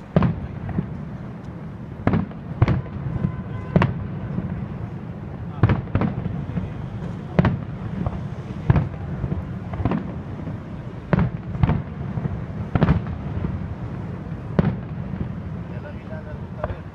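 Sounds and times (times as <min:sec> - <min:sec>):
fireworks bangs: 0:00.0 - 0:16.9.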